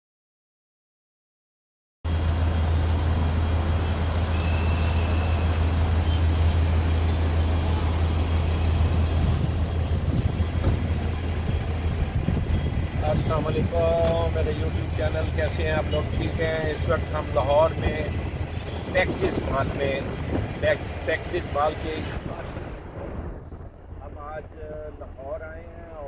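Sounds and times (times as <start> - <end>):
traffic rumble: 2.1 - 26.0.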